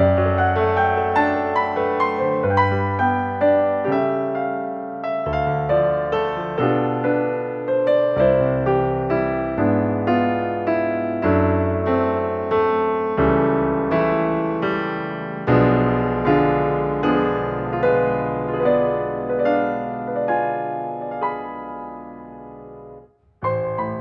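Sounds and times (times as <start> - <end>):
soft slow piano music: 0.0 - 24.0.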